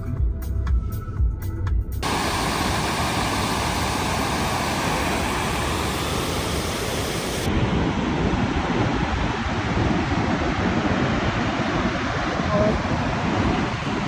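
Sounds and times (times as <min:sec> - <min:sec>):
steady rushing noise: 0:02.0 - 0:14.0.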